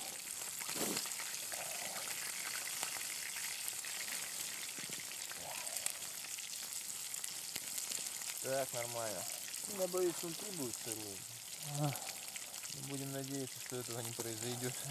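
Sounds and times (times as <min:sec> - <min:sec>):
steak sizzling in a frying pan: 0:00.0 - 0:14.9.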